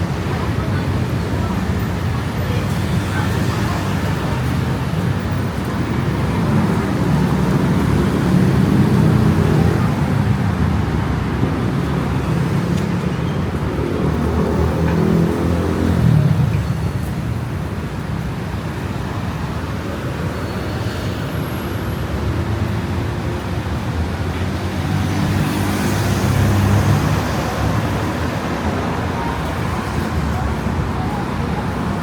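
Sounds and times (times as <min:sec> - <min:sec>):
vehicle engines running close: 0:00.0 - 0:32.0.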